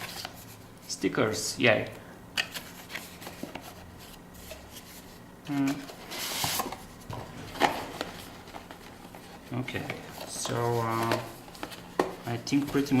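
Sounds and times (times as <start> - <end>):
packaging rustling: 2.4 - 13.0.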